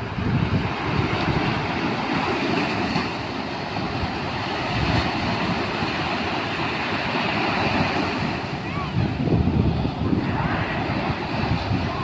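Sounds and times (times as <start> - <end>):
ocean surf breaking on beach: 0.0 - 12.0
wind rumble on microphone: 0.0 - 12.0.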